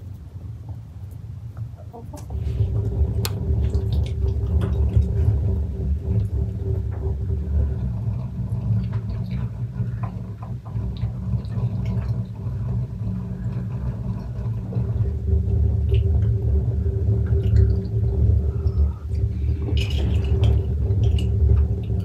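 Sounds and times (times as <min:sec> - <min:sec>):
faint hum: 0:00.0 - 0:22.0
steady low rumble: 0:00.0 - 0:22.0.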